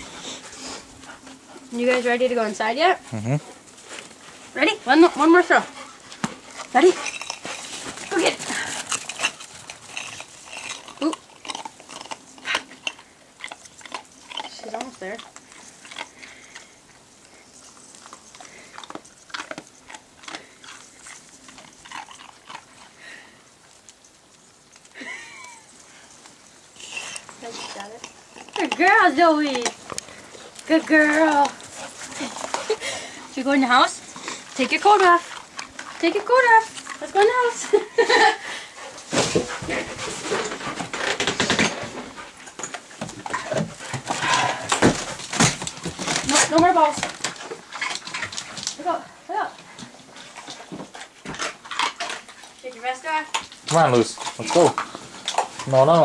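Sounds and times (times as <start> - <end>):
dog noises: 0.0 - 56.0.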